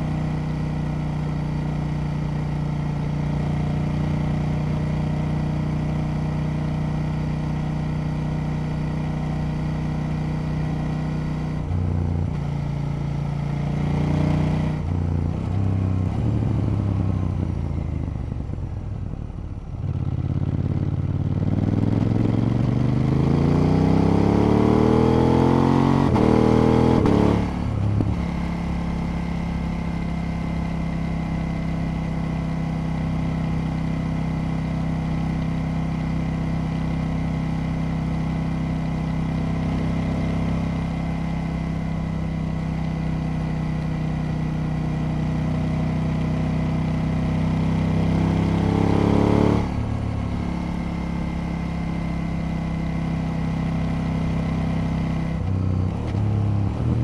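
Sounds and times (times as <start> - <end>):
motorcycle engine revving: 0.0 - 18.6, 19.8 - 57.0.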